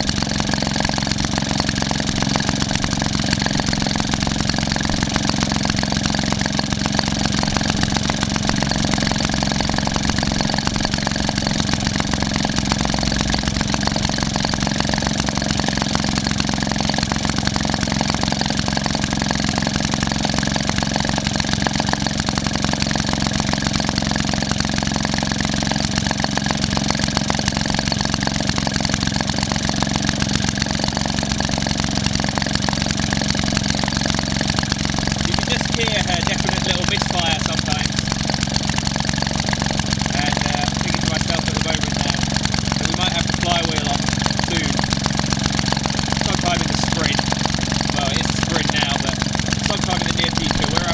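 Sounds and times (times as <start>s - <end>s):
two-stroke engine running: 0.0s - 50.9s.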